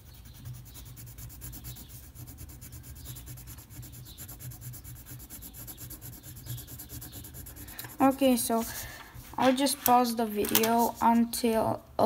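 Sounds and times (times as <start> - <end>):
pencil scratching on paper: 0.0 - 11.3.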